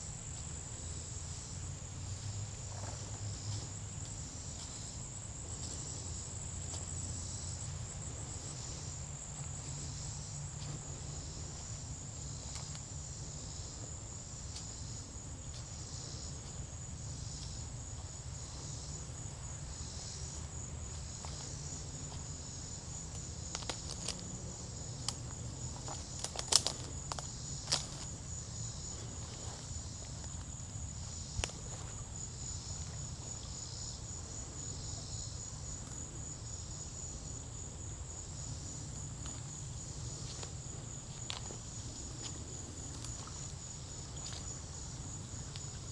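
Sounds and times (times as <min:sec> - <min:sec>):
high insect trill: 0:00.0 - 0:45.9.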